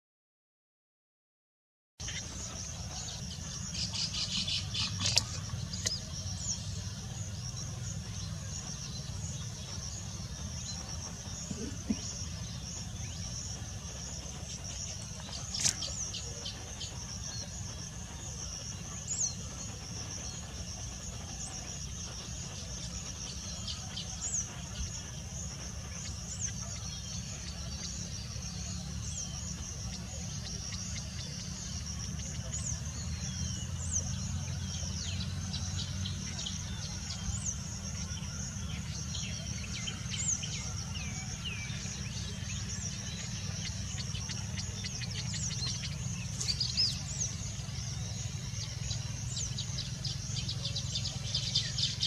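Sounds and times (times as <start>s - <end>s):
insects droning: 2.0s - 52.0s.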